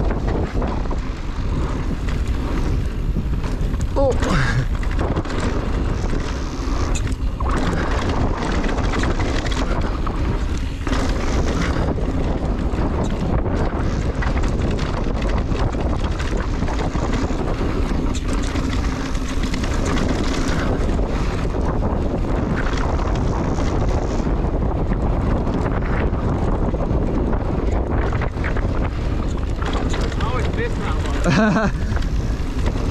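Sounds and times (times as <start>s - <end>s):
bike tyres on dirt trail: 0.0s - 32.9s
wind on microphone: 0.0s - 32.9s.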